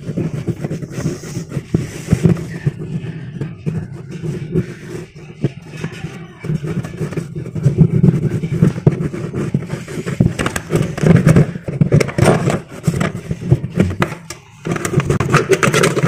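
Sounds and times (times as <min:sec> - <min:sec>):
hand scraping plastic rim: 0:00.0 - 0:16.0.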